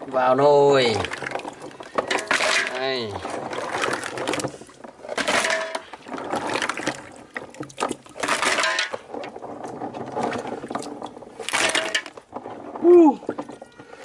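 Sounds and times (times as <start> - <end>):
mussel shells clattering: 0.0 - 14.0
water splashing: 0.0 - 14.0.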